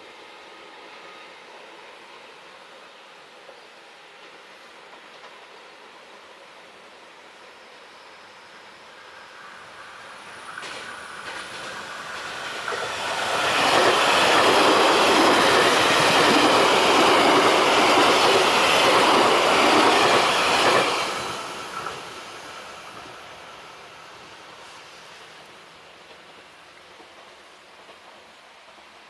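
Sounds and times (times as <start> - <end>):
train passing: 0.0 - 29.0.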